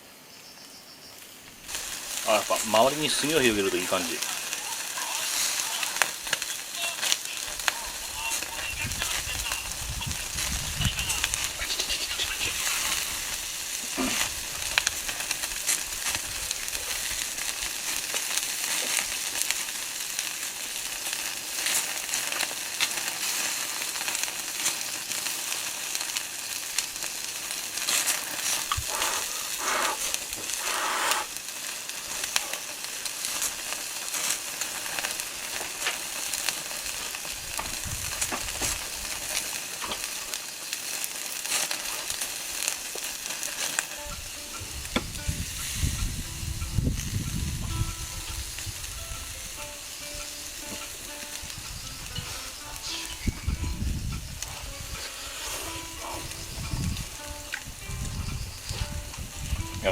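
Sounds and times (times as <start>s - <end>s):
meat sizzling over charcoal: 0.4s - 59.9s
small crackles and pops: 0.6s - 59.9s.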